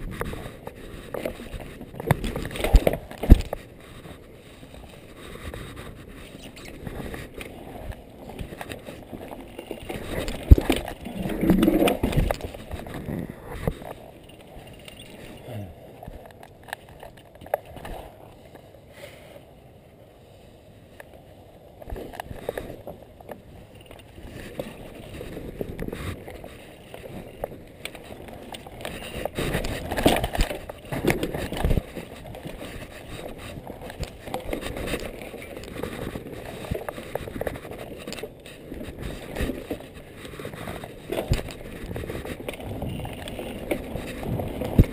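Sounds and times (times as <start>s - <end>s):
bike tyres on dirt trail: 0.0s - 19.5s, 20.3s - 44.9s.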